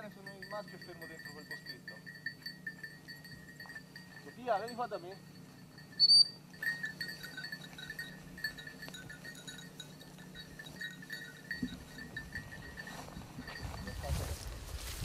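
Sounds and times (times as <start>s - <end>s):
small metal bell tinkling: 0.0s - 14.9s
low steady hum: 0.0s - 15.0s.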